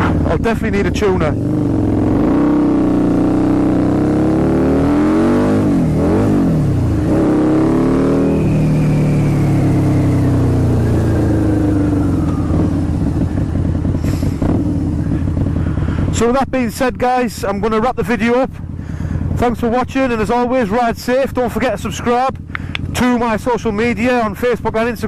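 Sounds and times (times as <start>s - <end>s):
motorcycle engine idling: 0.0s - 4.5s, 5.5s - 25.0s
motorcycle engine revving: 0.0s - 25.0s.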